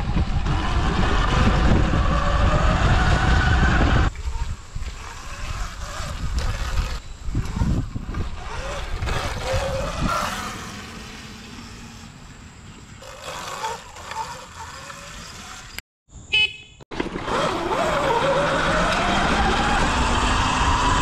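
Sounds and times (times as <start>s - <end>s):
electric dirt bike motor whining: 0.0s - 15.8s, 17.0s - 21.0s.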